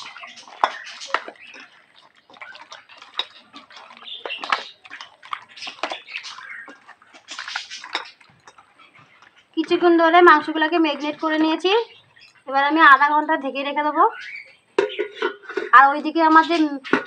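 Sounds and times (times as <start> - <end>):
wet squelches of mixing: 0.0 - 17.0.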